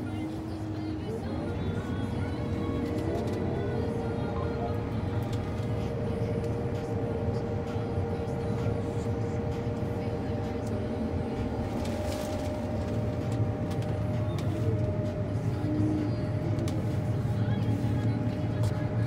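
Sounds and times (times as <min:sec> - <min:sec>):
combine engine and machinery: 0:00.0 - 0:19.0
steady whine: 0:00.0 - 0:19.0.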